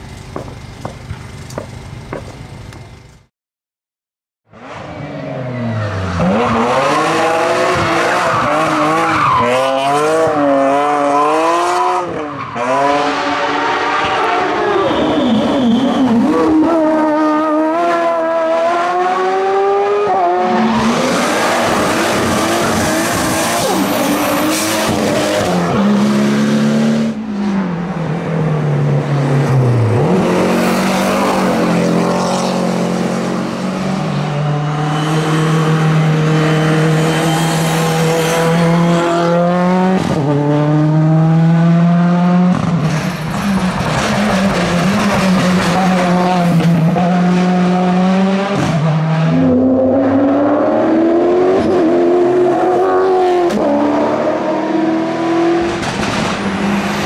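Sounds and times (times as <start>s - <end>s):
race car engines at full throttle: 4.5s - 57.0s.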